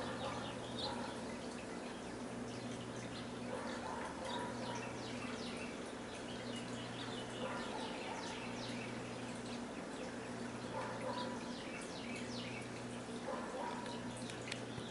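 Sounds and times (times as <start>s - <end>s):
birds chirping: 0.0s - 14.9s
steady low hum: 0.0s - 14.9s.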